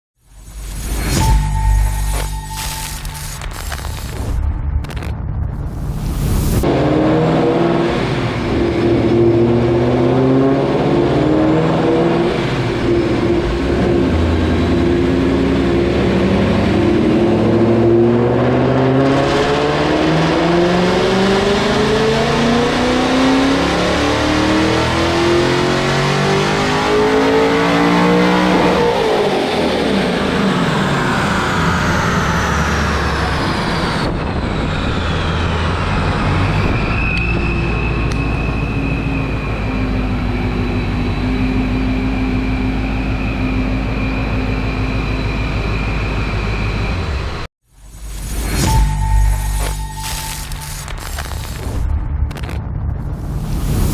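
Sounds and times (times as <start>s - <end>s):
supercharger whine: 0.2s - 53.9s
car engine revving: 0.6s - 47.5s.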